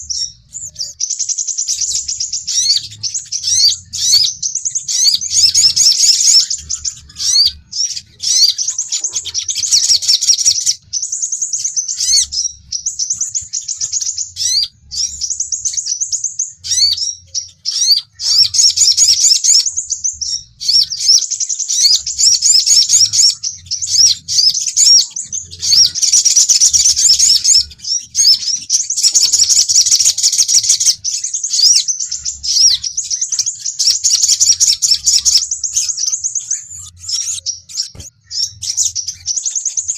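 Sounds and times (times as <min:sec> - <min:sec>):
sunbirds twittering song: 0:00.0 - 0:39.9.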